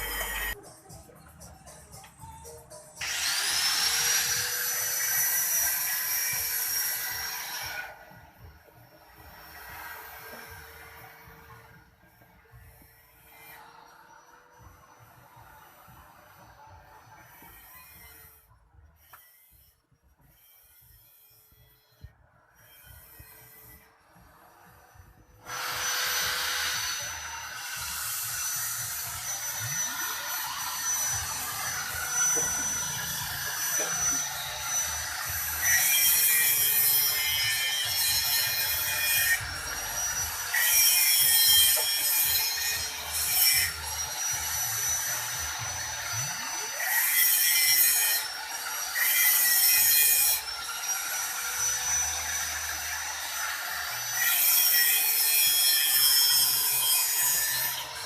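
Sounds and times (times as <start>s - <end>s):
abrasive rasping on metal: 8.8s - 58.0s.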